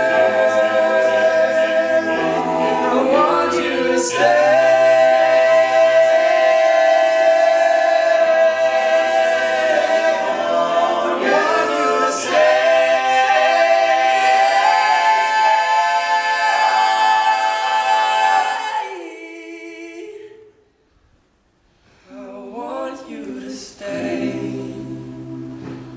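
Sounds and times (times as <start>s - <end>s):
men's a cappella group singing: 0.0s - 20.4s, 22.2s - 25.9s.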